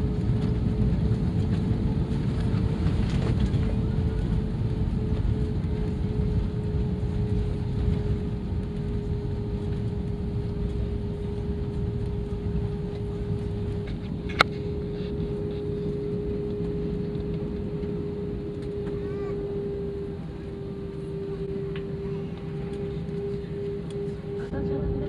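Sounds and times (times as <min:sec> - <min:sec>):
airliner cabin engine rumble: 0:00.0 - 0:25.0.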